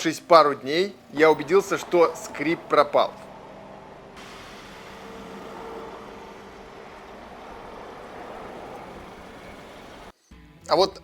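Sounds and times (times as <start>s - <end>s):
car engine and road noise: 0.0s - 10.2s.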